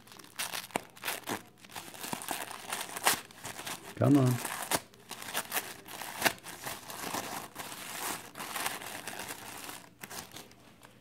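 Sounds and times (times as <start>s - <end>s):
paper crinkling and tearing: 0.0s - 11.0s.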